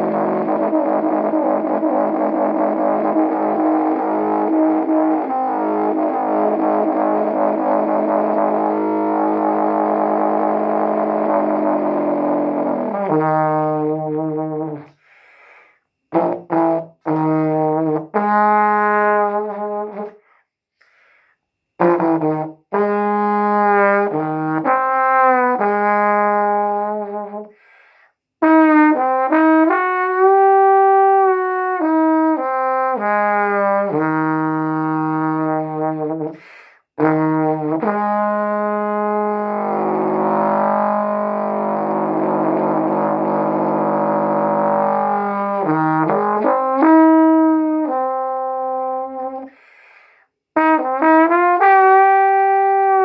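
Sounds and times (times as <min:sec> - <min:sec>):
solo trombone playing blues: 0:00.0 - 0:15.0, 0:16.0 - 0:20.2, 0:21.7 - 0:27.6, 0:28.4 - 0:49.6, 0:50.5 - 0:53.0.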